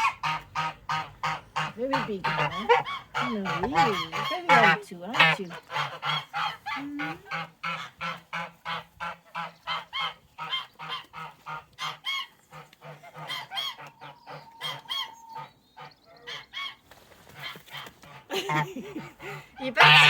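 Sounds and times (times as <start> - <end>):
goose honking: 0.0 - 16.8, 19.6 - 20.0.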